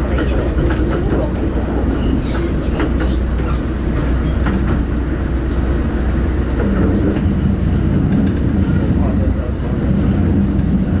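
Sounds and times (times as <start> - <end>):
wheels clicking over rails: 0.0 - 9.2
railcar low rumble: 0.0 - 11.0.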